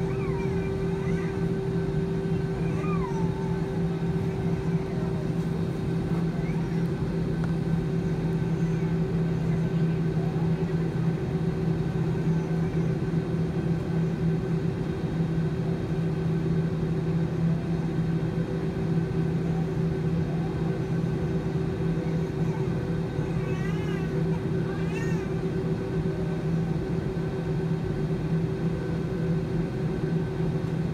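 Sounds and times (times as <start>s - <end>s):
airliner cabin drone: 0.0s - 30.9s.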